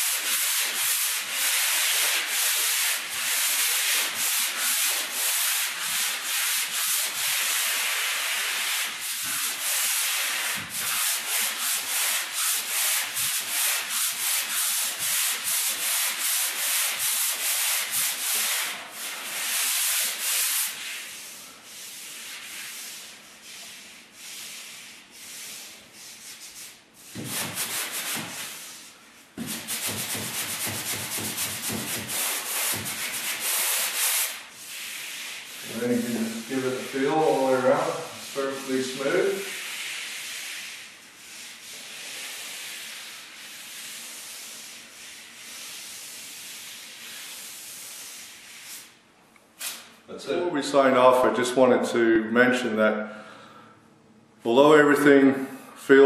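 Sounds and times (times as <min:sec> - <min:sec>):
sanding block rubbing drywall: 0:00.0 - 0:49.0.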